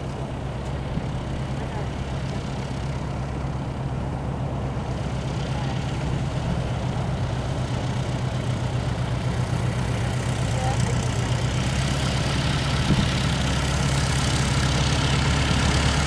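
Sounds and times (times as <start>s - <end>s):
propeller plane engine idling: 0.0s - 16.0s.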